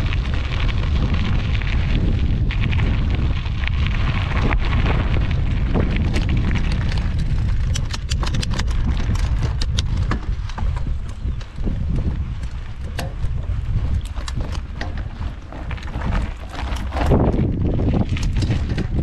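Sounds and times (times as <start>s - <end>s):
bike clicks and rattles: 0.0s - 19.0s
tyres rolling over gravel: 0.0s - 19.0s
wind buffeting microphone: 0.0s - 19.0s.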